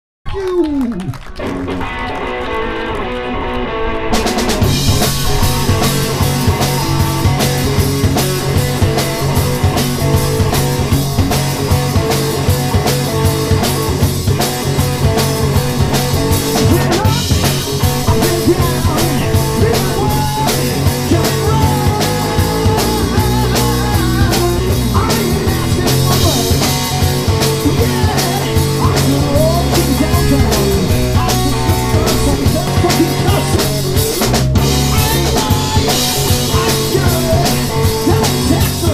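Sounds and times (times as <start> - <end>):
electric guitar: 0.3 - 38.9
electric bass: 1.1 - 38.9
drum kit beat: 4.2 - 38.9
man singing: 4.6 - 12.6, 15.1 - 38.9.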